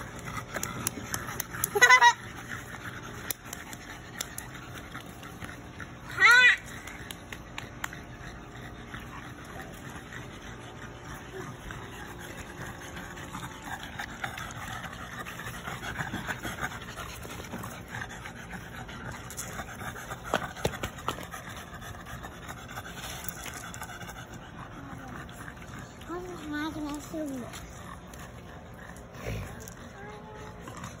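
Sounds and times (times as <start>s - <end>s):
dogs panting: 0.0s - 31.0s.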